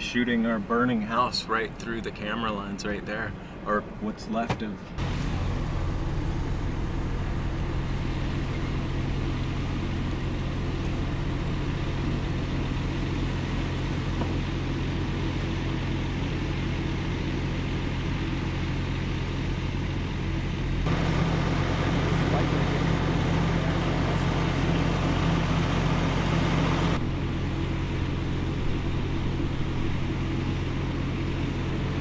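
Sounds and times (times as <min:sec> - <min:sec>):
vehicle engine and road hum: 0:00.0 - 0:32.0.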